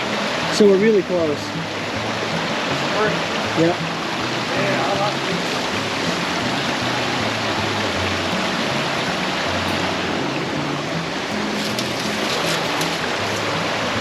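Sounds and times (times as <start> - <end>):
waterfall and creek rushing: 0.0 - 14.0.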